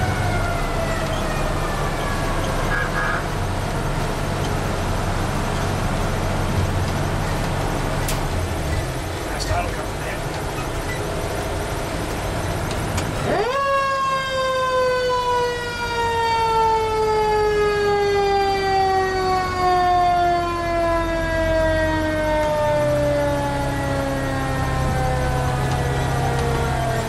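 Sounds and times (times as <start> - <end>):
fire truck siren wailing: 0.0 - 27.0
truck engine rumble: 0.0 - 27.0.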